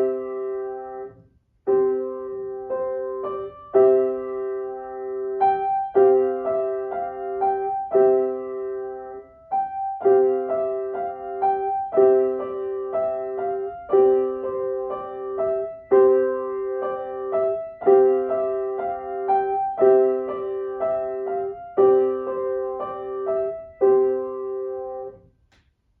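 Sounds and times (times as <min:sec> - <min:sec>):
piano playing simple piece: 0:00.0 - 0:25.6.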